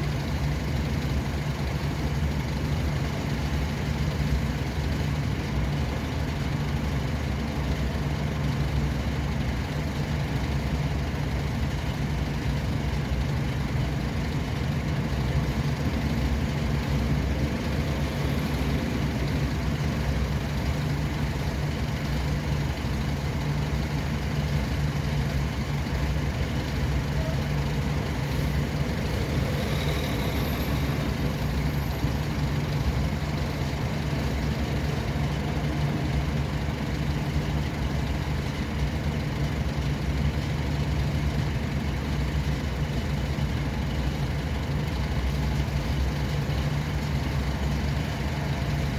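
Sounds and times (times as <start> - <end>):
vehicle engine and road drone: 0.0 - 48.9.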